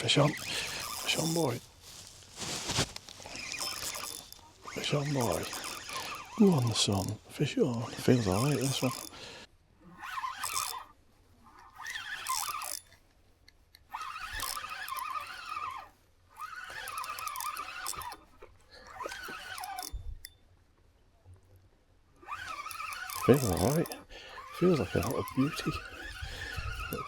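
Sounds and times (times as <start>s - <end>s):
fishing reel whirring: 0.0s - 13.0s, 13.8s - 20.4s, 22.2s - 27.0s.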